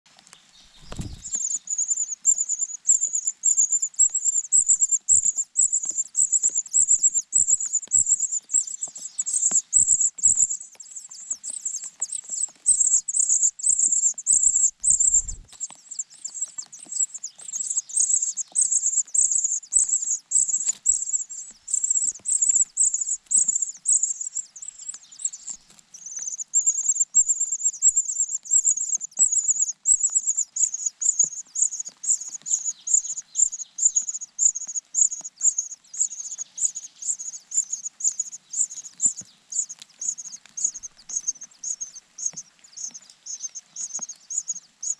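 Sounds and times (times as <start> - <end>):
nestlings begging chirps: 0.6 - 44.9.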